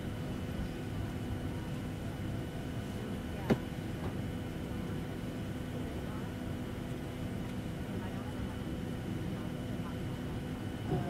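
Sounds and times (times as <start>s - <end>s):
airliner cabin hum: 0.0s - 11.0s
faint passenger voices: 0.0s - 11.0s.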